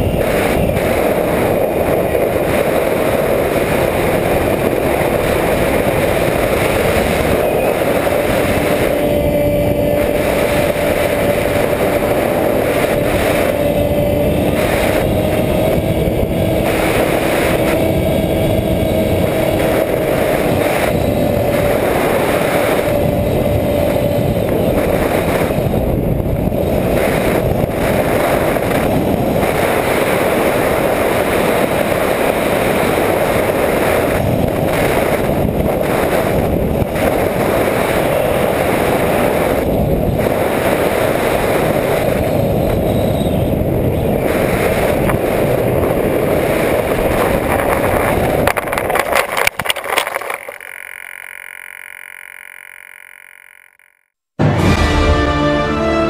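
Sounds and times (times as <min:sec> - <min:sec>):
electric motor whine: 0:00.0 - 0:48.4, 0:49.4 - 0:54.1
wind rush: 0:00.0 - 0:50.3.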